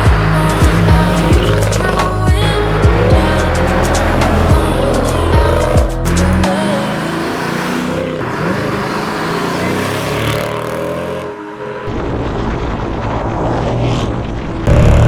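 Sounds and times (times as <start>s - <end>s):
car exhaust running and revving: 0.0s - 11.4s, 14.2s - 15.0s.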